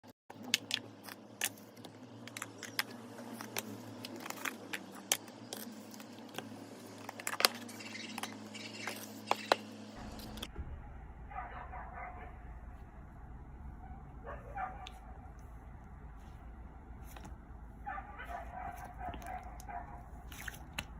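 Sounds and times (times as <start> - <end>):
low steady hum: 0.3 - 20.9.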